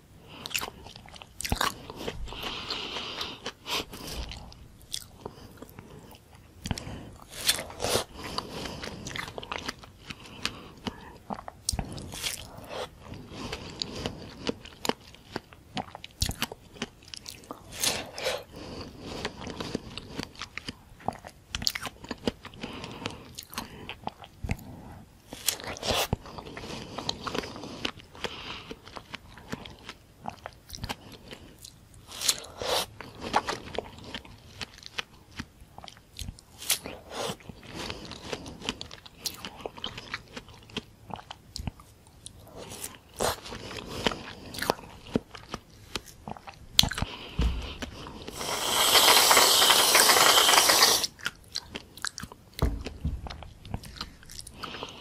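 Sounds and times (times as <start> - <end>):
biting and chewing fruit: 0.3 - 55.0.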